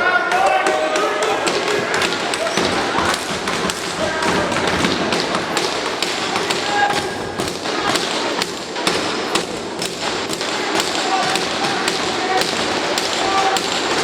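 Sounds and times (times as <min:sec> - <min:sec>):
background hubbub: 0:00.0 - 0:14.0
people shouting: 0:00.0 - 0:14.0
sharp taps and thuds: 0:00.6 - 0:14.0.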